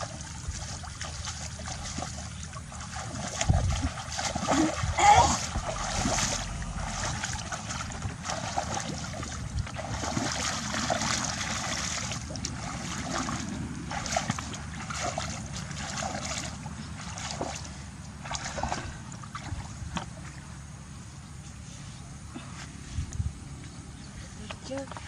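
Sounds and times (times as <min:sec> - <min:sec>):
shallow water splashing: 0:00.0 - 0:20.5.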